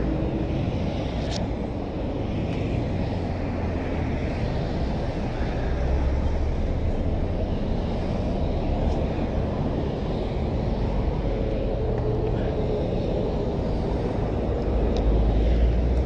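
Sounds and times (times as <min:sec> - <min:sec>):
highway traffic: 0:00.0 - 0:16.0
wind rumble on microphone: 0:00.0 - 0:16.0.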